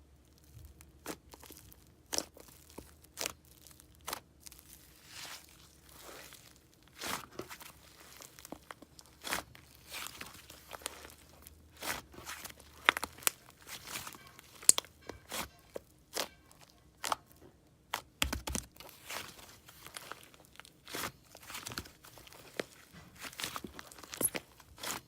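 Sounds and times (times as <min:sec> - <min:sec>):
crunchy slime squished by hand: 0:00.0 - 0:25.0.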